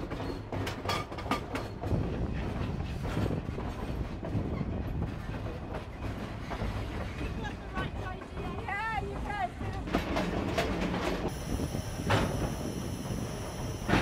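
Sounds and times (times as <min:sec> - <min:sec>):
railroad car rumbling: 0:00.0 - 0:14.0.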